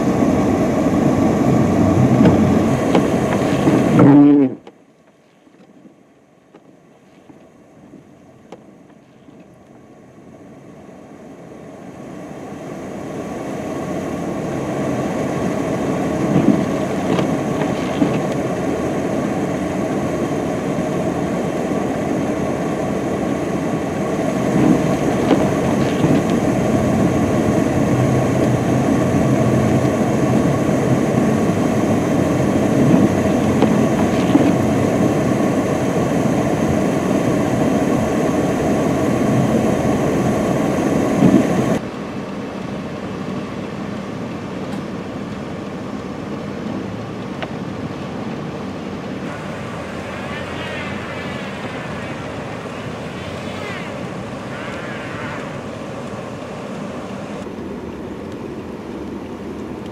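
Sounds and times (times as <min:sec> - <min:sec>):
truck engine rumbling: 0:00.0 - 0:04.8, 0:11.7 - 0:58.5
wheels spinning in snow: 0:00.0 - 0:06.0, 0:06.6 - 0:59.9.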